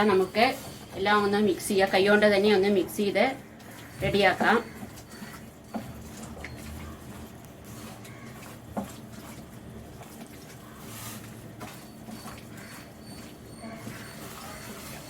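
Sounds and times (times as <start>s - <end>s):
wet squishing of hand mixing: 0.0s - 15.0s.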